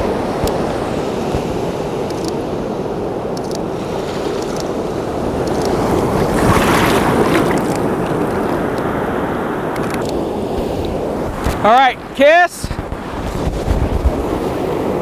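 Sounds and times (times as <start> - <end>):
ocean surf breaking: 0.0 - 15.0
wind on microphone: 0.0 - 15.0.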